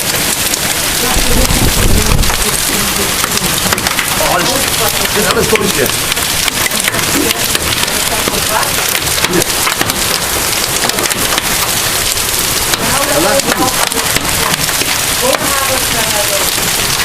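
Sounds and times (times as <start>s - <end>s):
heavy rain and hail on hard surfaces: 0.0s - 17.0s.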